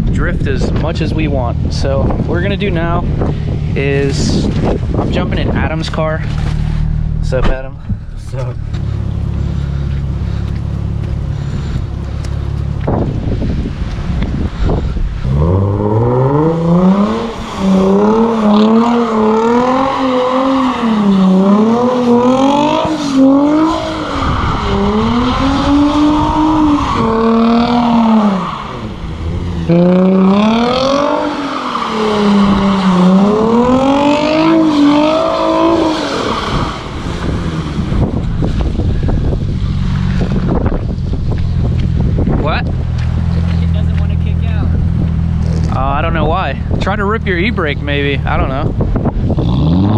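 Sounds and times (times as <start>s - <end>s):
car engine revving hard: 8.4s - 49.9s.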